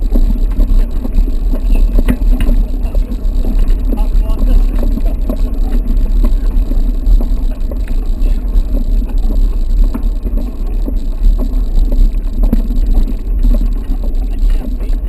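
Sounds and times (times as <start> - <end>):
bike frame rattling: 0.0 - 15.0
wind buffeting microphone: 0.0 - 15.0.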